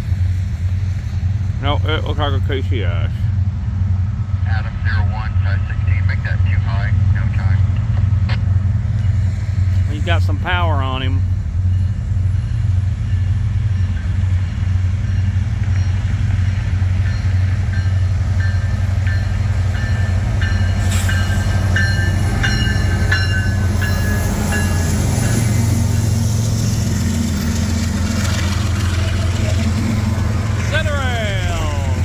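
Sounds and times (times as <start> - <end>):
freight train rolling past: 0.0 - 32.0
low locomotive engine rumble: 0.0 - 32.0.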